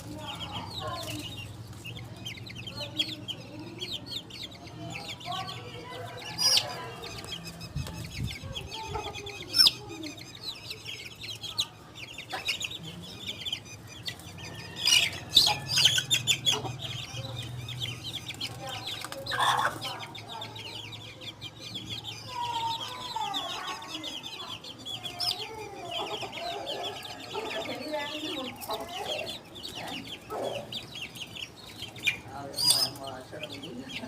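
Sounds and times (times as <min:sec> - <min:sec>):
chicks peeping: 0:00.0 - 0:34.0
sharp chick calls: 0:00.0 - 0:34.0.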